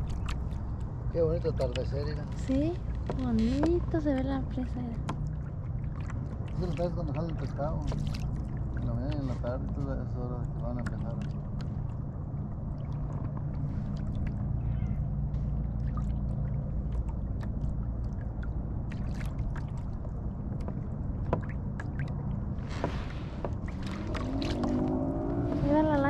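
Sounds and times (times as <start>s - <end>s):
boat motor humming: 0.0s - 26.0s
water lapping against hull: 0.0s - 26.0s.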